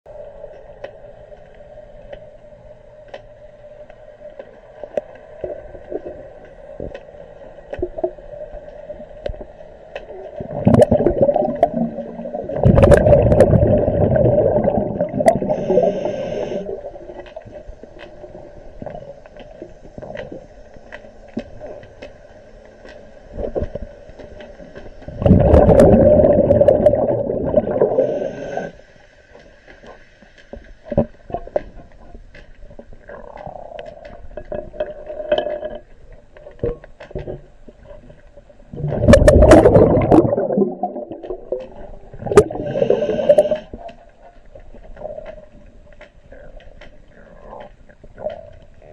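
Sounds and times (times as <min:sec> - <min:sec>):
underwater hum: 0:00.1 - 0:48.9
rumbling scraping water noise: 0:02.5 - 0:48.9.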